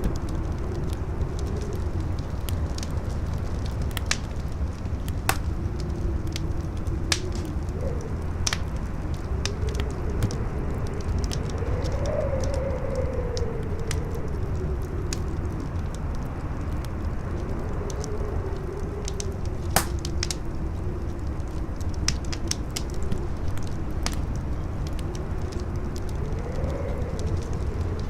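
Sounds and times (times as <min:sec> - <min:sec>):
campfire crackling and popping: 0:00.0 - 0:28.0
howling wind: 0:00.0 - 0:28.0.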